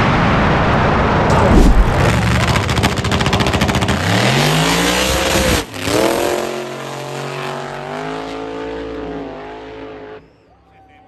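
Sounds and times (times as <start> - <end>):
car engine accelerating hard: 1.3 - 10.3.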